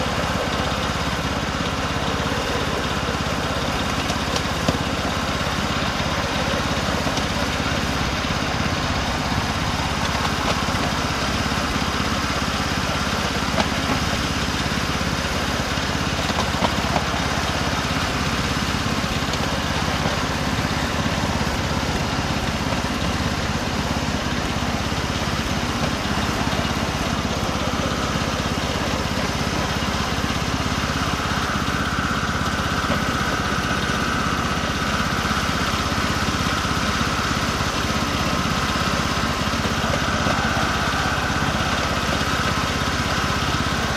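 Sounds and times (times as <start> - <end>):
miniature locomotive engine running: 0.0 - 43.9.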